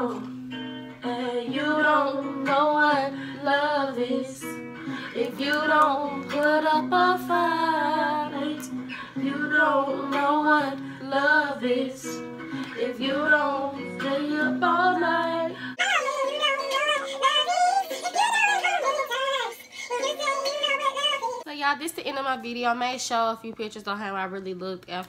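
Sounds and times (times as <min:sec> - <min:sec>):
woman singing: 0:00.0 - 0:00.4, 0:01.0 - 0:21.5.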